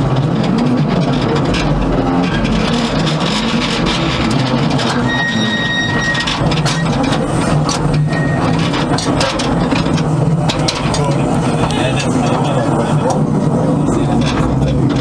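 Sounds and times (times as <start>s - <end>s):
model steam locomotive clattering: 0.0s - 15.0s.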